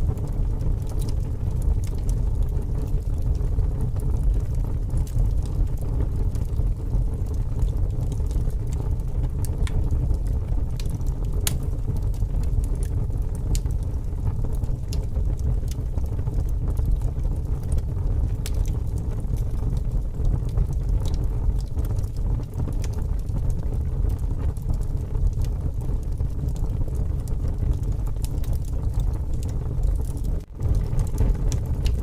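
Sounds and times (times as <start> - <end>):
strong wind rumbling: 0.0 - 32.0
wood fire crackling: 0.0 - 32.0.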